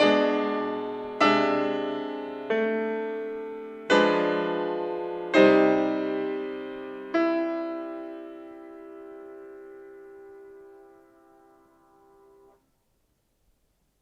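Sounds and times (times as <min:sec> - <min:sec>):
slow piano chords: 0:00.0 - 0:12.6.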